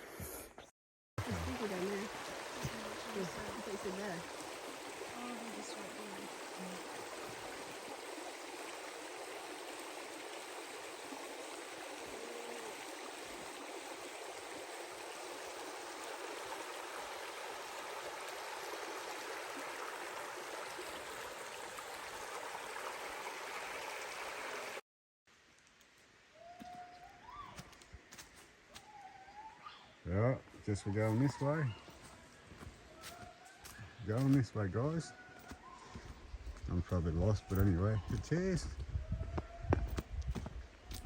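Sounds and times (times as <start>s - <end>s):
creek running over rocks: 1.2s - 24.8s, 30.1s - 41.0s.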